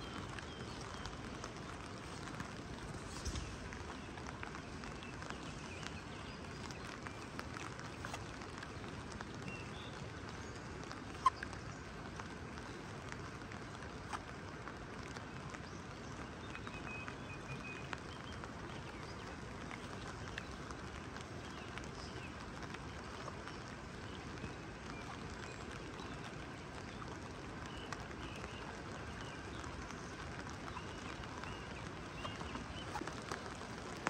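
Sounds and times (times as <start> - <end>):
drips and small taps: 0.0 - 34.0
steady rain: 0.0 - 34.0.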